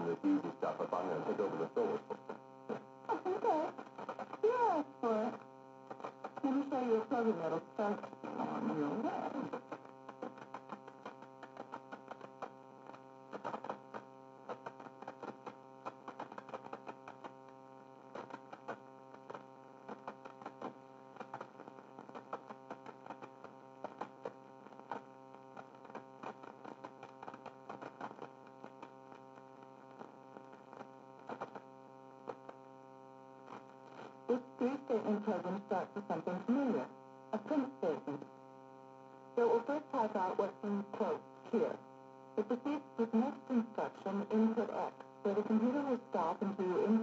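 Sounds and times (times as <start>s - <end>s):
electrical hum: 0.0s - 26.7s, 27.6s - 47.0s.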